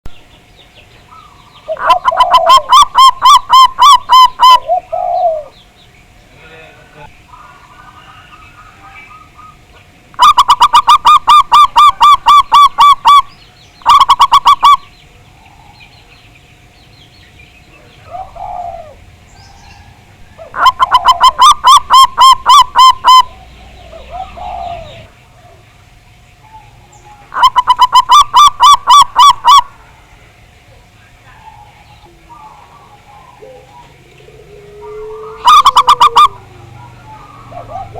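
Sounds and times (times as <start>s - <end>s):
doves cooing: 0.1s - 37.9s.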